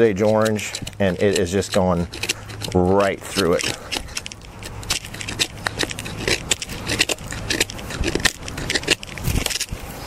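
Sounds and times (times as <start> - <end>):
knife scraping wood: 0.0 - 10.0.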